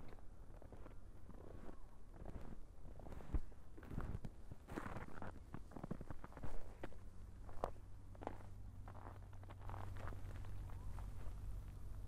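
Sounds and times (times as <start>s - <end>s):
footsteps crunching in snow: 0.0s - 12.0s.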